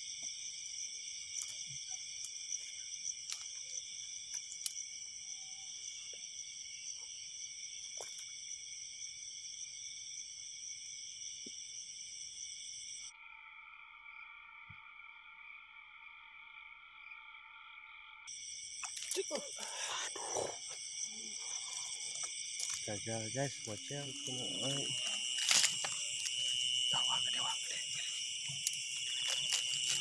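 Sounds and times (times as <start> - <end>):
lower steady insect tones: 0.0 - 30.0
night insects trilling: 0.0 - 30.0.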